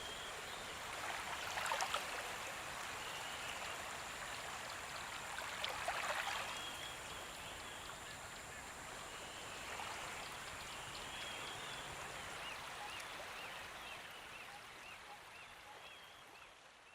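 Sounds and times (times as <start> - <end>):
stream water running: 0.0 - 16.9.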